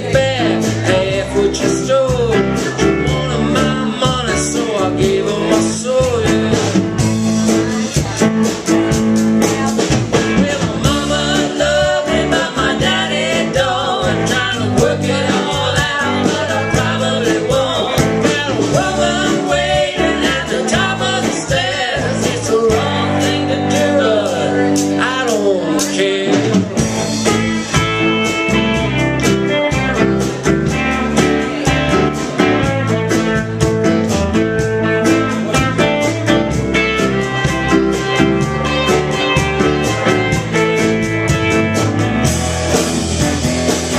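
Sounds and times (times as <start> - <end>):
country-rock band playing: 0.0 - 43.9
lead guitar bending: 0.0 - 43.9.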